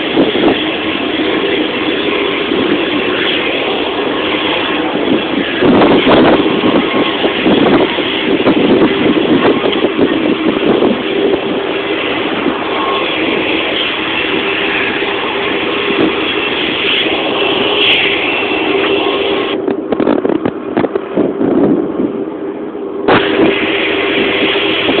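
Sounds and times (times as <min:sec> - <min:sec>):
aircraft engines in cabin: 0:00.0 - 0:25.0.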